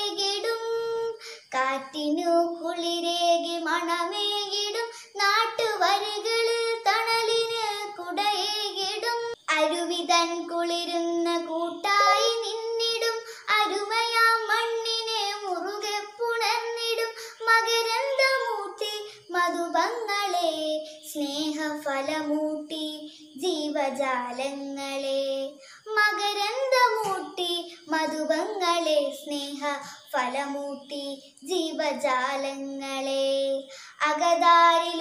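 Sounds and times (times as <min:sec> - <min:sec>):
girl singing unaccompanied: 0:00.0 - 0:35.0.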